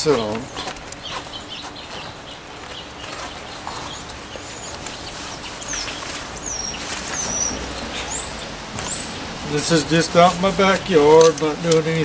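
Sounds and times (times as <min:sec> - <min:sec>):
birds chirping: 0:00.0 - 0:12.0
nylon sack rustling: 0:00.0 - 0:12.0.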